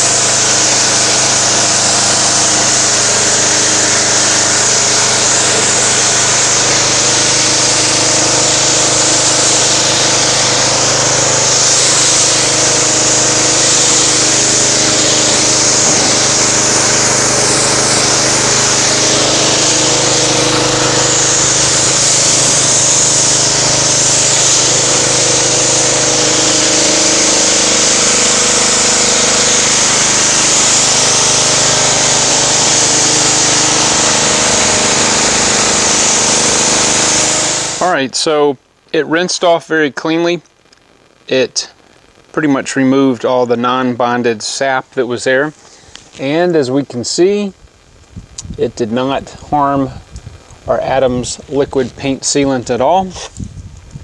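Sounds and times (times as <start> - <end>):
high-pressure water jet hissing: 0.0 - 38.4, 41.3 - 54.0
pressure washer motor humming: 0.0 - 40.0, 42.0 - 54.0.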